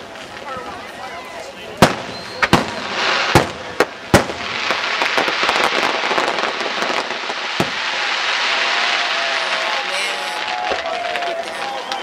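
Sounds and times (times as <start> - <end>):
fireworks bangs: 0.0 - 12.0
fireworks crackling pops: 0.0 - 12.0.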